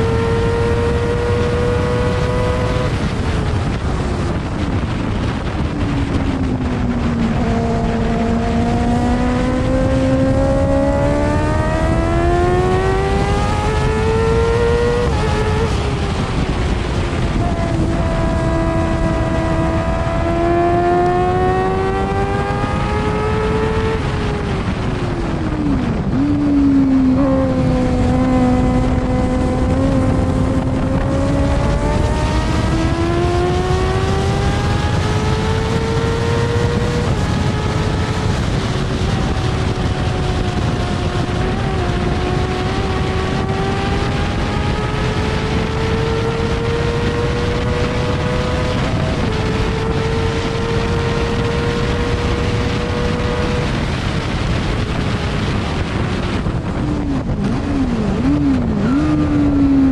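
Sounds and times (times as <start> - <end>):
racing engine at speed: 0.0 - 59.9
wind rushing: 0.0 - 59.9.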